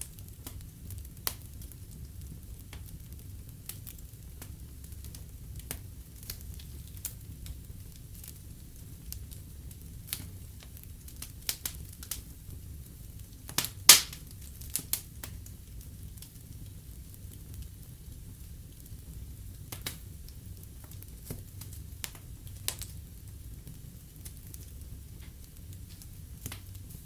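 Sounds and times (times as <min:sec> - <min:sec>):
low rumble of flame: 0:00.0 - 0:27.0
wood fire crackling and popping: 0:00.0 - 0:27.0.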